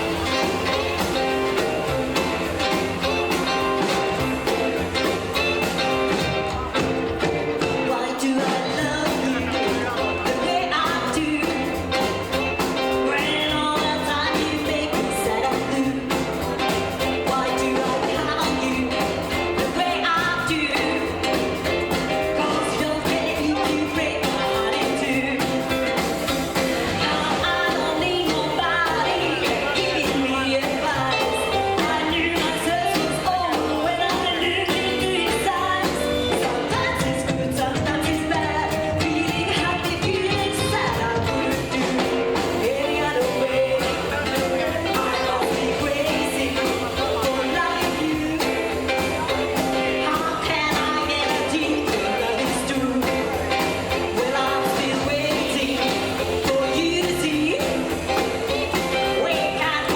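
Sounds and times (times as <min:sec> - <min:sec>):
live rockabilly band playing: 0:00.0 - 0:59.9.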